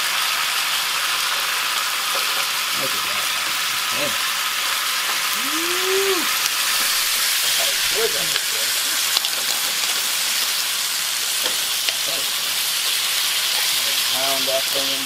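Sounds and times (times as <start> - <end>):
meat sizzling in a skillet: 0.0 - 15.0.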